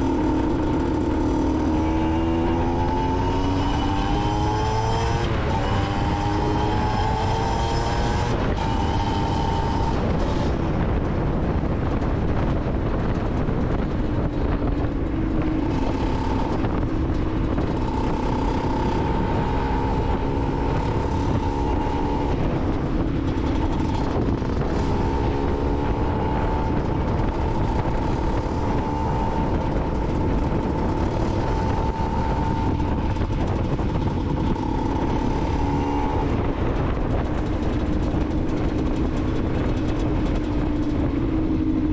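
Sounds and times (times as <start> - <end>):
steady rushing noise: 0.0 - 41.9
two-stroke motorcycle engine revving: 0.0 - 41.9.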